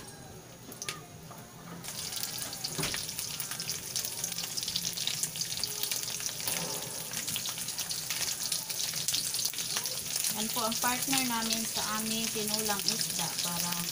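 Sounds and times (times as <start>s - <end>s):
fish frying in oil: 1.8s - 13.9s.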